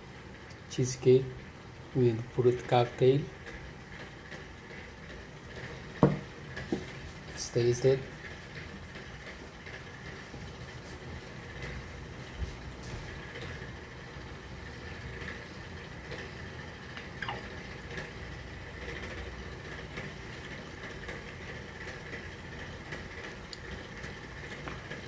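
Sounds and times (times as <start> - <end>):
background hum and hiss: 0.0 - 25.0.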